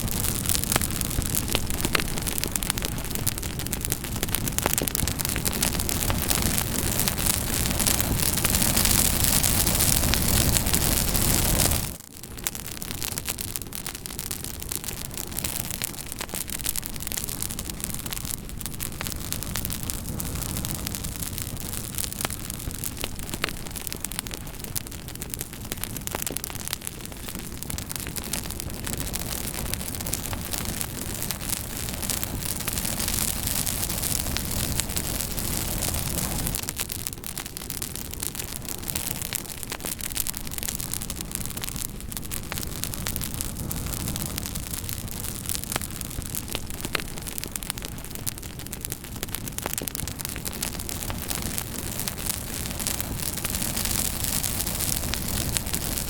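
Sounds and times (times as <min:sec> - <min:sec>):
flames hissing and rumbling: 0:00.0 - 0:56.0
wood crackling and popping: 0:00.0 - 0:56.0.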